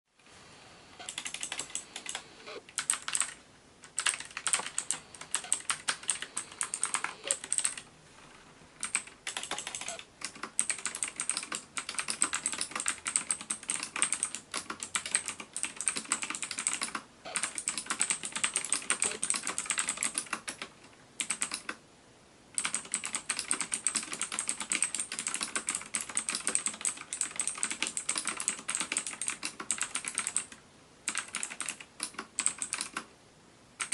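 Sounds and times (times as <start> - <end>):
fast keyboard typing: 1.0 - 7.9, 8.8 - 21.8, 22.6 - 33.1.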